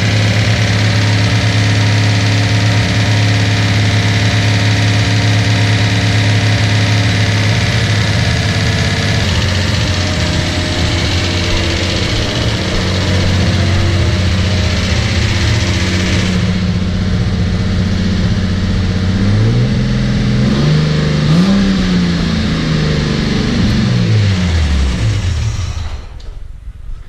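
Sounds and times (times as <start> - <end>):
car engine idling: 0.0 - 26.6.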